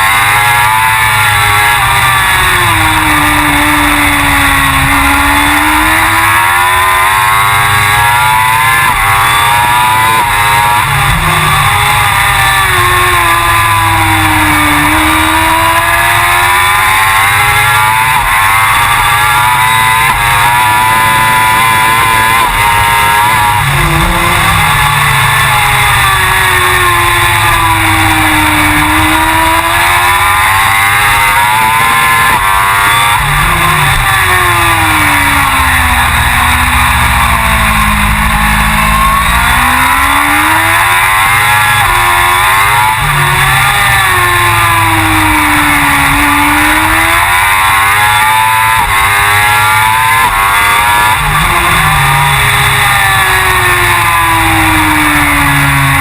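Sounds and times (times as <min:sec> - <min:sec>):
motorcycle engine racing: 0:00.0 - 0:56.0.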